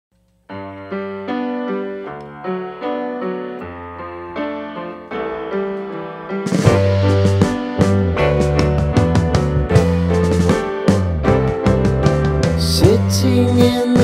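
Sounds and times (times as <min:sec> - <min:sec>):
piano melody over chords: 0:00.4 - 0:14.0.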